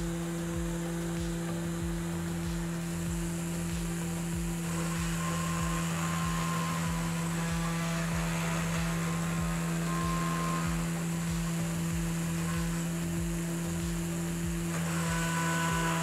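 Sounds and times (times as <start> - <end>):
router spindle milling metal: 0.0 - 16.0.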